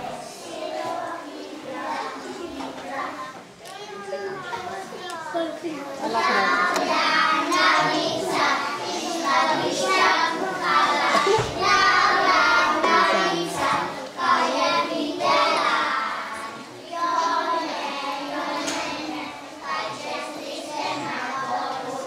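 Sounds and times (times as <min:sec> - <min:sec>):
children singing together: 0:00.0 - 0:22.0.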